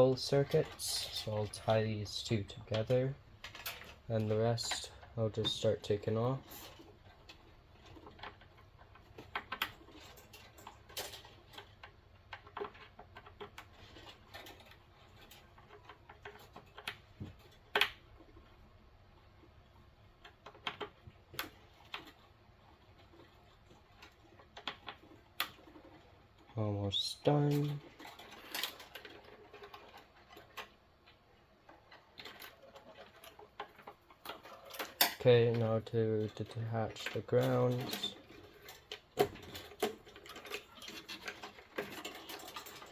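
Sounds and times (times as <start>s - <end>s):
small clicks and taps on wiring: 0.1s - 42.9s.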